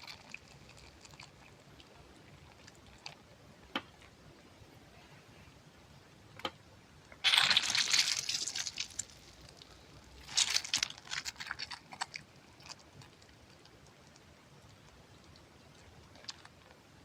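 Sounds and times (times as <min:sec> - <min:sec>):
crunchy squishing of soft object: 0:00.0 - 0:04.2, 0:07.2 - 0:16.9.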